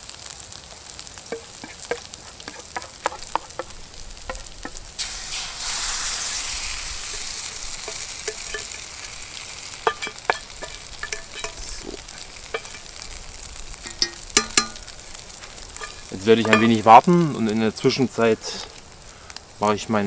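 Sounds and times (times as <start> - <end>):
bread sizzling in a frying pan: 0.0 - 20.0.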